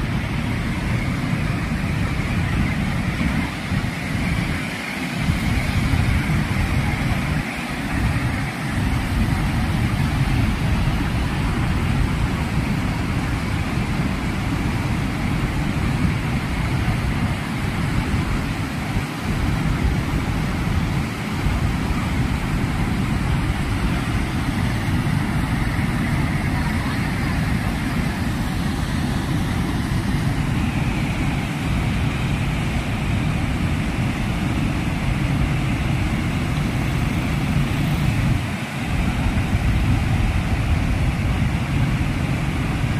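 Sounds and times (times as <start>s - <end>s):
river rapids and waterfall roaring: 0.0s - 42.9s.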